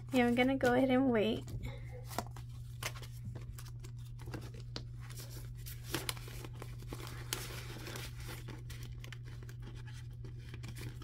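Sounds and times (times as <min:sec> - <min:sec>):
banknotes rustling: 0:00.0 - 0:11.0
low steady hum: 0:00.0 - 0:11.0.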